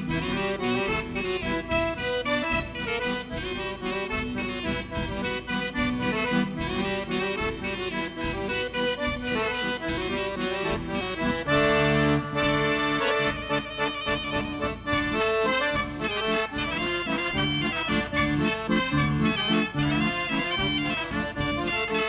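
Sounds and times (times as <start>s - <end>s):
folk dance music with accordion: 0.0s - 22.0s.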